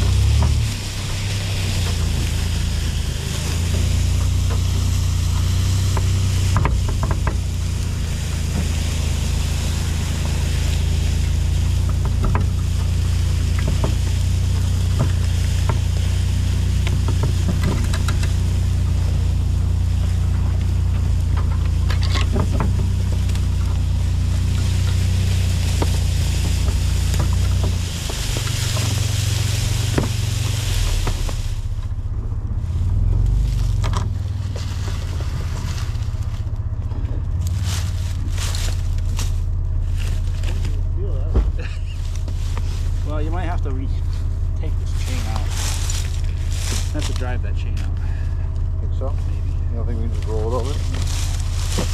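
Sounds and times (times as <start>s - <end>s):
log scraping across ground: 0.0s - 51.9s
vehicle engine running: 0.0s - 51.9s.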